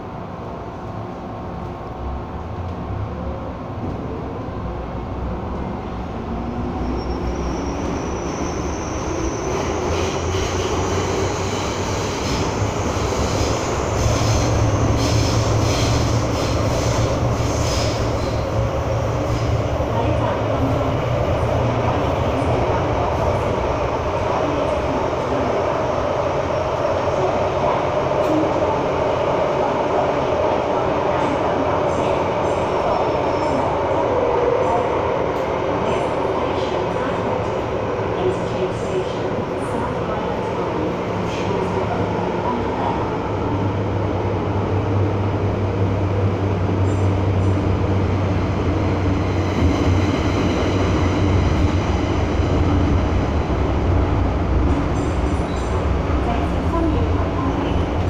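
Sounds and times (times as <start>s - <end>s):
high train whine: 0.0s - 58.0s
train wheels rumbling on rails: 1.5s - 58.0s.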